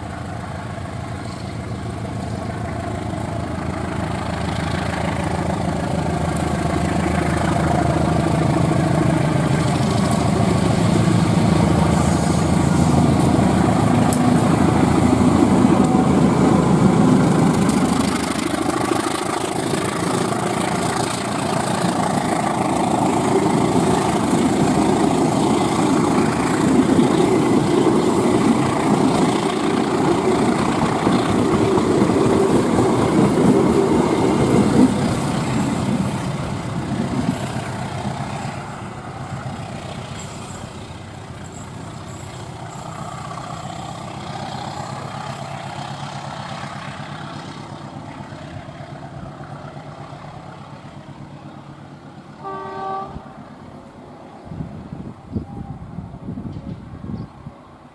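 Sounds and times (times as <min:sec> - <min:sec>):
train rumbling past: 0:00.0 - 0:57.9.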